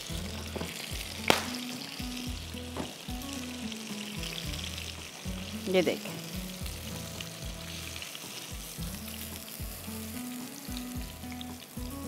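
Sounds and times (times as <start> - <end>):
chicken sizzling in a pan: 0.0 - 12.0
low background music: 0.0 - 12.0.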